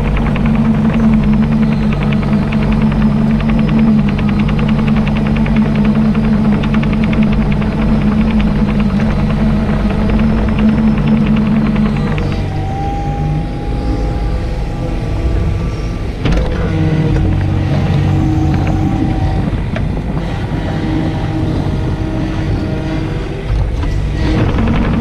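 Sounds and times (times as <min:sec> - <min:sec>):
excavator diesel engine under load: 0:00.0 - 0:25.0
hydraulic whine: 0:00.0 - 0:25.0.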